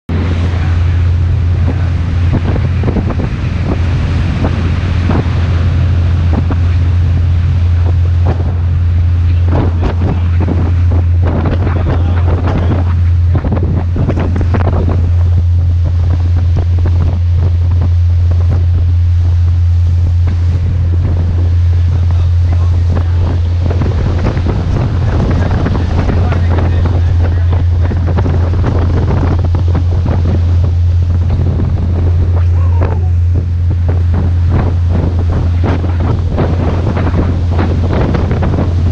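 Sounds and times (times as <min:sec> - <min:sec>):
diesel boat engines droning: 0:00.1 - 0:38.9
water rushing from boat wake: 0:00.1 - 0:38.9
wind noise on microphone: 0:00.1 - 0:38.9.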